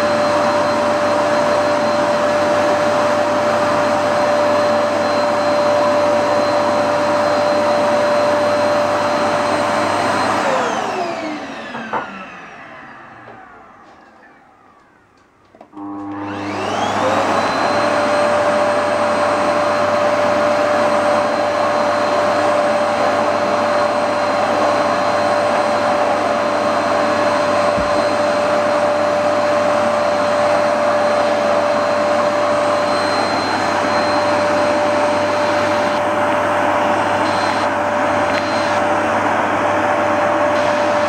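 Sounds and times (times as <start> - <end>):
vacuum cleaner motor whine: 0.0 - 41.0.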